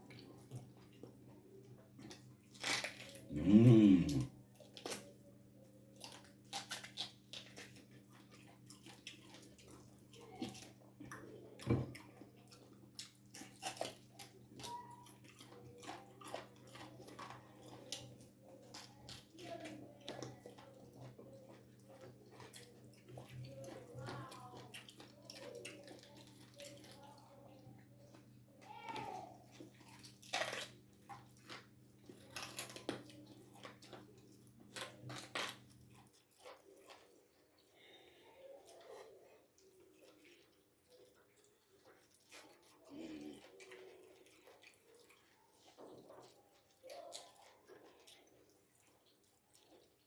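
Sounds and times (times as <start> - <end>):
wet chewing and slurping: 0.0 - 50.0.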